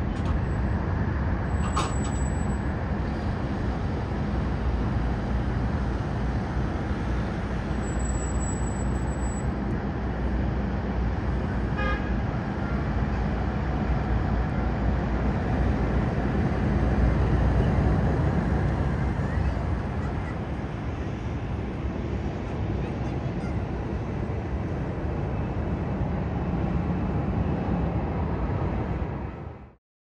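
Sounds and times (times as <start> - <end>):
aircraft engines rumbling: 0.0 - 29.8.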